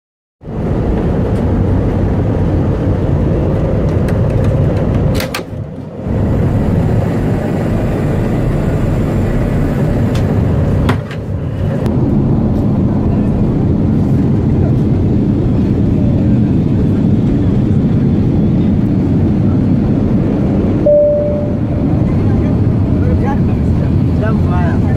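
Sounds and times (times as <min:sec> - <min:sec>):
airliner cabin rumble: 0:00.4 - 0:24.9.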